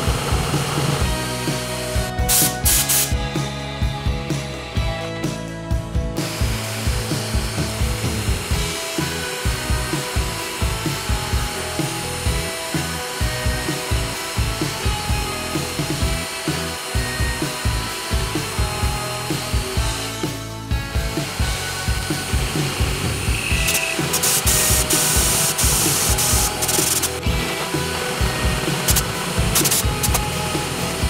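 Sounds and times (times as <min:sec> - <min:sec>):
drill press boring into plywood: 0:00.0 - 0:02.8, 0:06.4 - 0:20.4, 0:21.0 - 0:31.0
background music with steady beat: 0:00.0 - 0:31.0.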